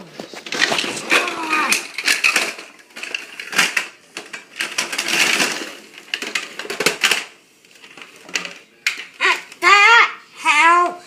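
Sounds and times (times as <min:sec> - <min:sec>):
plastic toy pieces rattling: 0:00.3 - 0:09.9.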